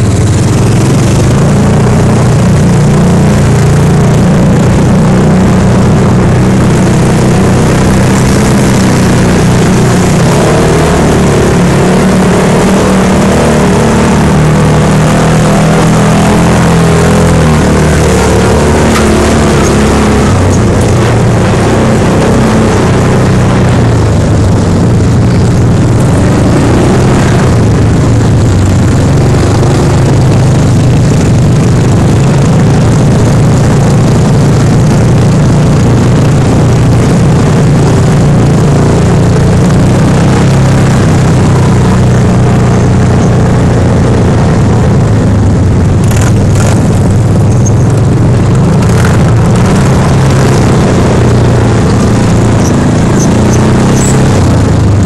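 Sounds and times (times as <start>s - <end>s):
vehicle engine running under load: 0.0s - 55.0s.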